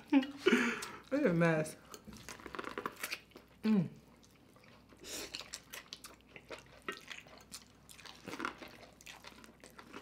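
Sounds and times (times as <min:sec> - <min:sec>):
wet chewing and lip smacks: 0:01.9 - 0:10.0.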